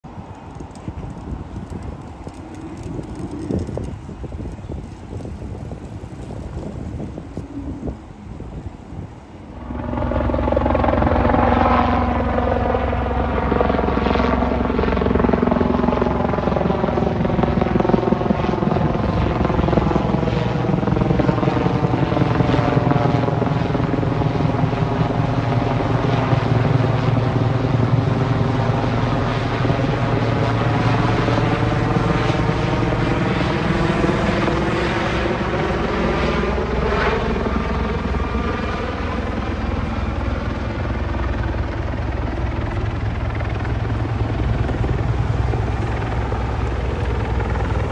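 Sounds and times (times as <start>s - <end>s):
helicopter flying overhead: 0.0s - 47.9s.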